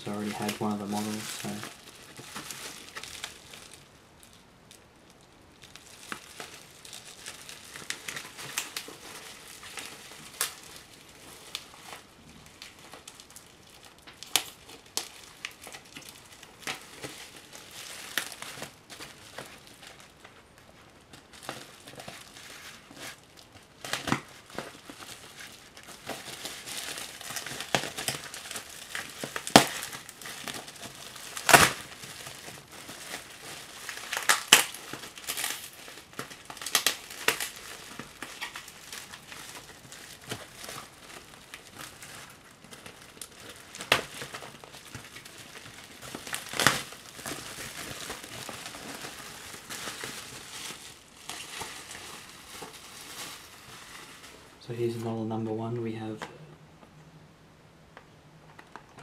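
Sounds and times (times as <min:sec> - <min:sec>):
bubble wrap crinkling: 0:00.0 - 0:56.2.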